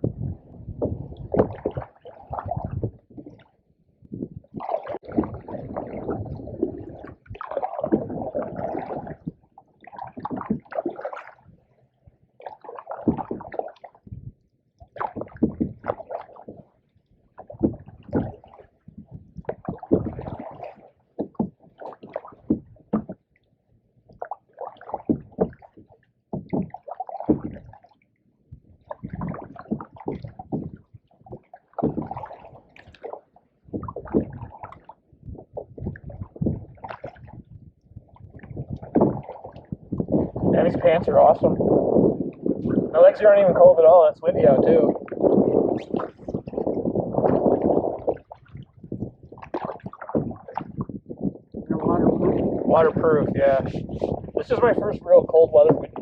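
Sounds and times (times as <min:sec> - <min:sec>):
paddles splashing in water: 0:04.4 - 0:11.6, 0:12.4 - 0:14.0, 0:14.8 - 0:16.7, 0:17.3 - 0:23.3, 0:24.2 - 0:27.9, 0:28.8 - 0:56.0.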